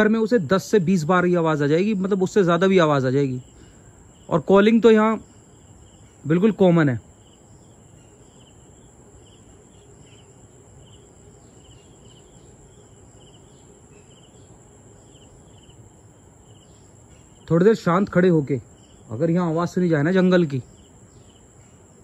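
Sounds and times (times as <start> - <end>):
high-pitched insect hum: 0.0 - 22.0
insects chirping: 0.0 - 22.0.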